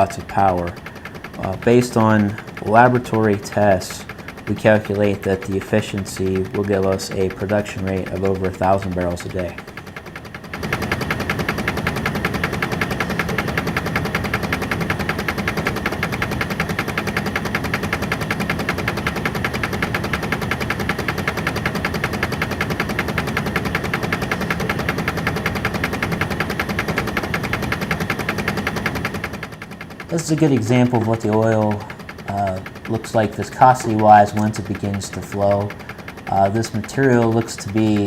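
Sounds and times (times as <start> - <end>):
machinery rattling: 0.0 - 38.0.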